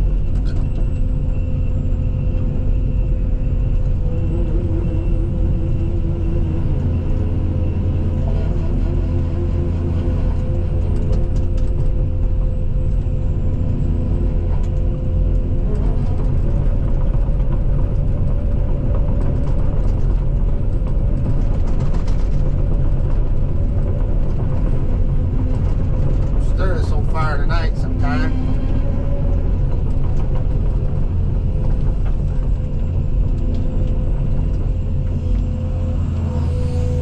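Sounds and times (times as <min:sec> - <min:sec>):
excavator diesel engine and hydraulics: 0:00.0 - 0:37.0.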